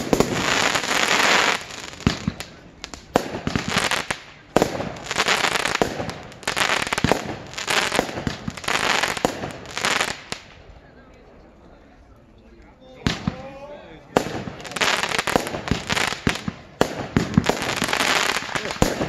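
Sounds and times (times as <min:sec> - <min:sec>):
firework bangs: 0:00.0 - 0:10.6, 0:13.0 - 0:13.5, 0:14.1 - 0:19.0
fireworks hissing and crackling: 0:00.0 - 0:10.7, 0:14.1 - 0:19.0.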